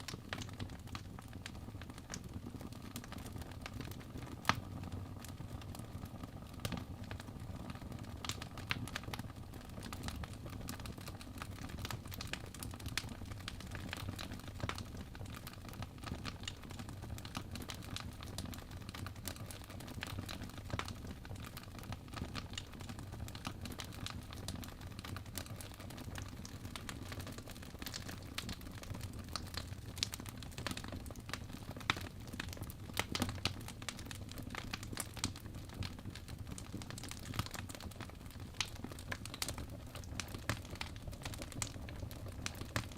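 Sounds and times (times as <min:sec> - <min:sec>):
wood fire crackling: 0:00.0 - 0:42.9
fire pops and snaps: 0:00.1 - 0:05.6, 0:09.8 - 0:42.9.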